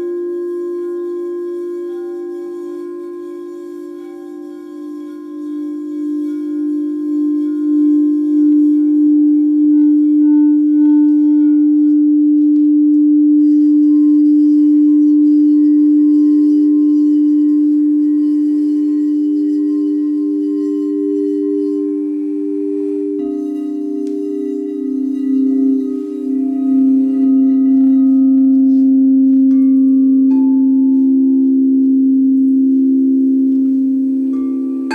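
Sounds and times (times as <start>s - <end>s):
crystal singing bowl ringing: 0.0s - 34.9s
singing bowl struck: 4.0s - 34.9s.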